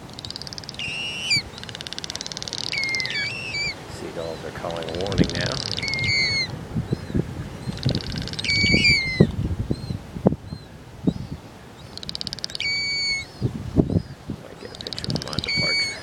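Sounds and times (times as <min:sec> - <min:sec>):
gulls alarm calls: 0:00.0 - 0:16.0.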